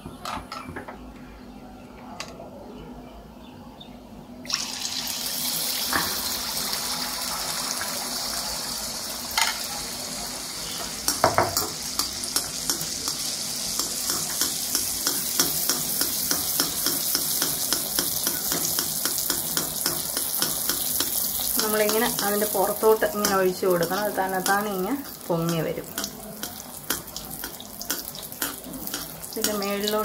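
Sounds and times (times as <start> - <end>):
batter sizzling in hot oil: 4.5 - 30.0.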